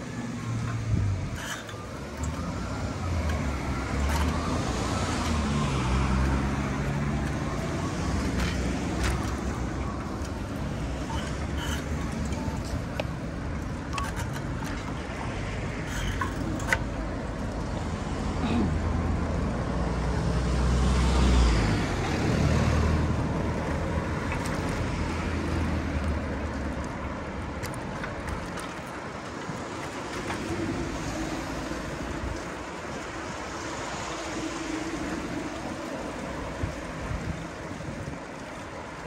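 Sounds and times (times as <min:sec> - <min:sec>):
traffic noise: 0:00.0 - 0:39.0.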